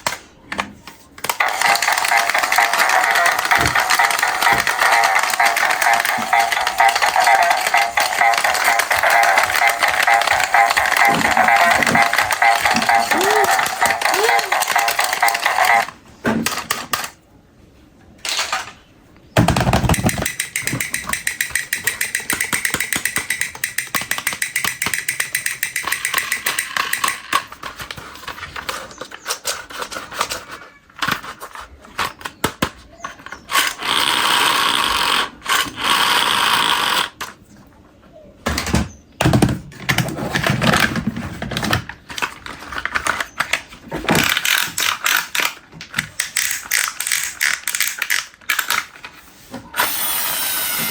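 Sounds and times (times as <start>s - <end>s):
plastic toy parts clicking and rattling: 0.0s - 17.2s, 18.2s - 18.8s, 19.4s - 37.4s, 39.3s - 49.2s.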